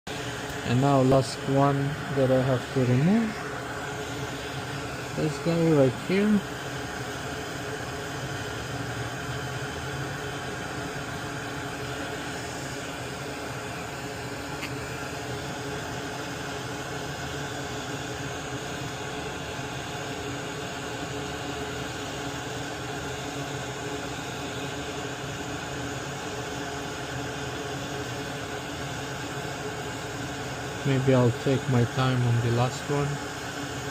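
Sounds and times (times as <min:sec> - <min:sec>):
fan-driven machine hissing and humming: 0:00.1 - 0:33.9.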